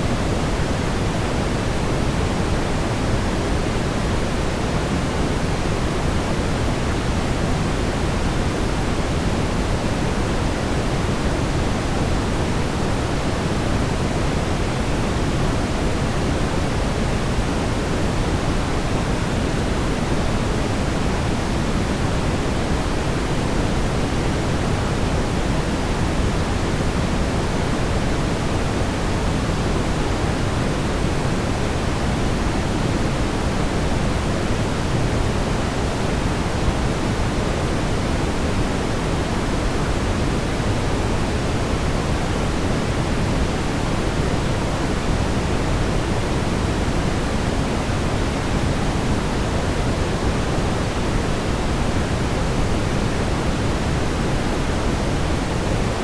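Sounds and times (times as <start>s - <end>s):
brown noise rumbling hiss: 0.0s - 56.0s.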